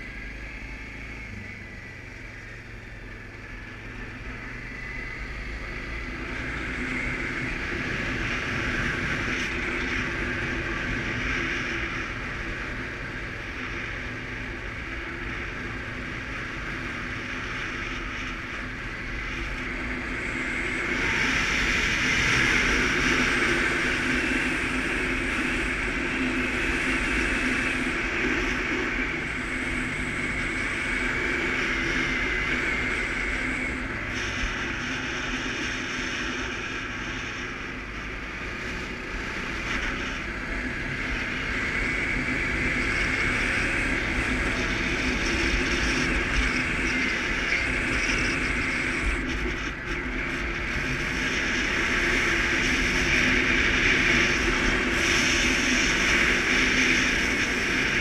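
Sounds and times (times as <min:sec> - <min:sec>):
atv engine running: 0:00.0 - 0:58.0
wind and road noise: 0:00.0 - 0:58.0.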